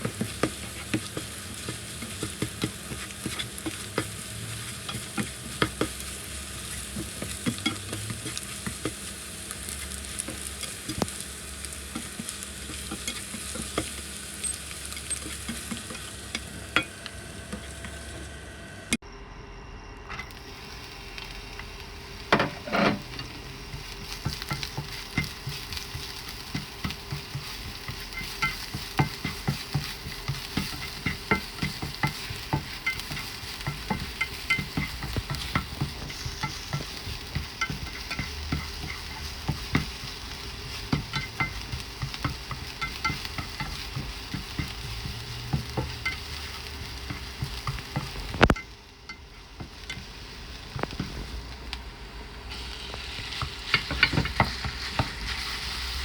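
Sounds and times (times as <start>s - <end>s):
spatula scraping a pan: 0.0s - 11.2s, 11.9s - 16.5s, 22.3s - 51.4s, 52.5s - 56.0s
food sizzling in a hot pan: 0.0s - 18.3s, 20.3s - 56.0s.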